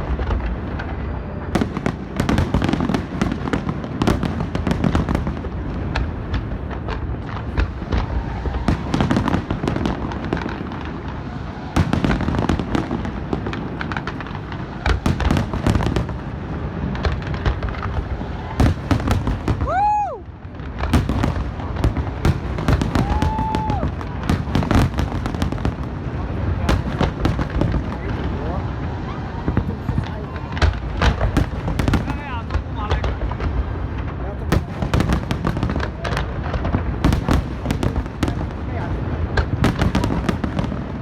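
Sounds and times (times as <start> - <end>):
continuous low rumble: 0.0 - 41.0
fireworks bursting and crackling: 0.0 - 41.0.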